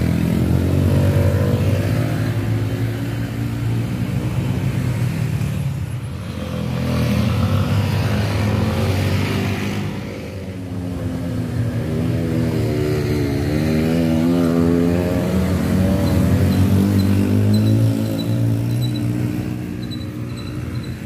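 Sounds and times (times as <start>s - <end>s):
motorcycle engine under heavy throttle: 0.0s - 21.0s.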